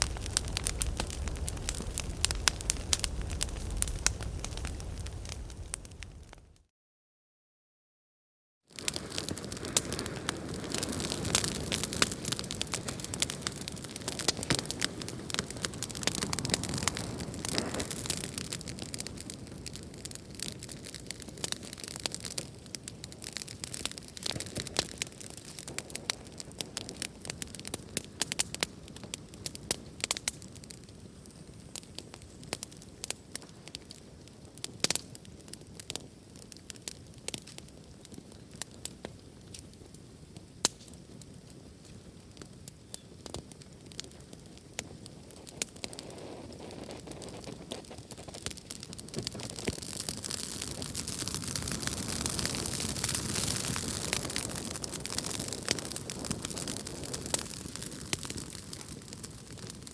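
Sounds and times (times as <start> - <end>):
wood fire crackling: 0.0 - 6.7, 8.7 - 59.9.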